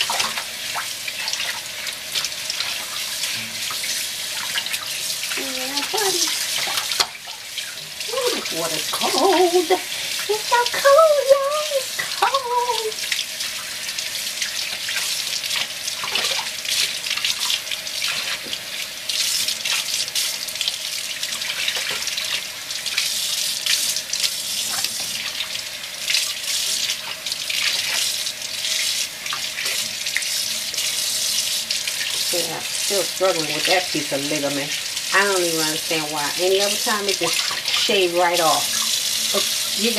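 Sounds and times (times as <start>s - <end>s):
tap water running into sink: 0.0s - 39.9s
water splashing: 0.0s - 39.9s.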